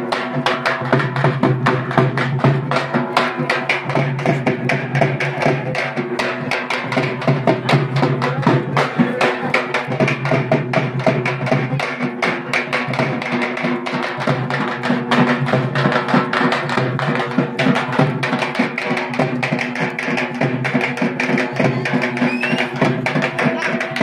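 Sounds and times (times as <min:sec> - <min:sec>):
fast dense drumming: 0:00.0 - 0:24.0.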